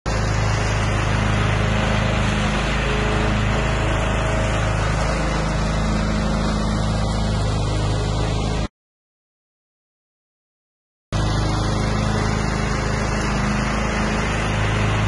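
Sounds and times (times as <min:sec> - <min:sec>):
lawn tractor mowing grass: 0:00.1 - 0:08.7, 0:11.1 - 0:15.0.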